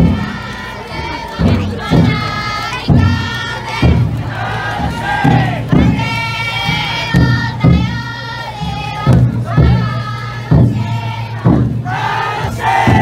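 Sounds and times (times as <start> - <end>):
men singing group chant: 0.0 - 13.0
taiko drum strikes: 0.0 - 13.0.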